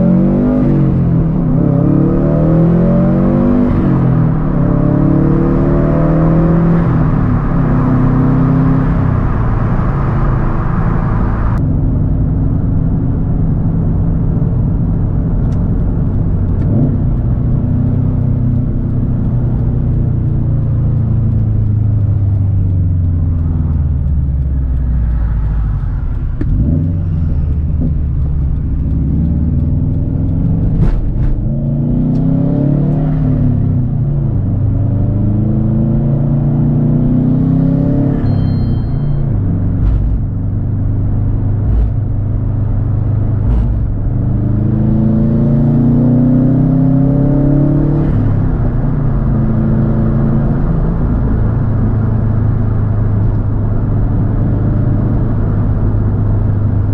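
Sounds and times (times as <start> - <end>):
car engine and exhaust while driving: 0.0 - 56.9.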